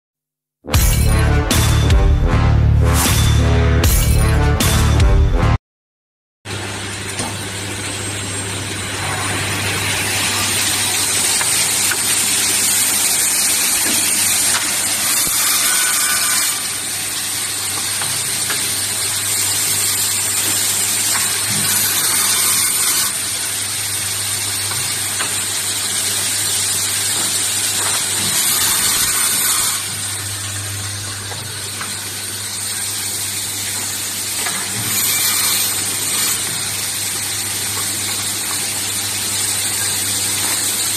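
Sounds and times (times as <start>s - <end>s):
woodworking machine motor hum: 6.5s - 40.9s.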